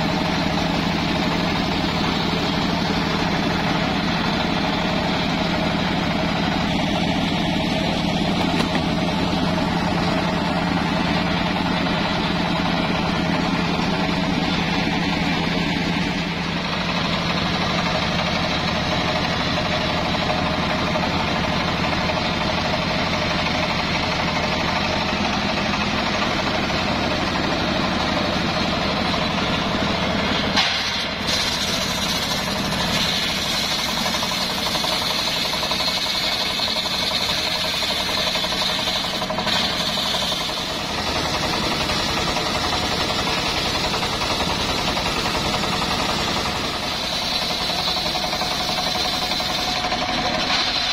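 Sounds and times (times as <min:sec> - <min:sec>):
circular blade sawing log: 0:00.0 - 0:50.9
sawmill engine running: 0:00.0 - 0:50.9.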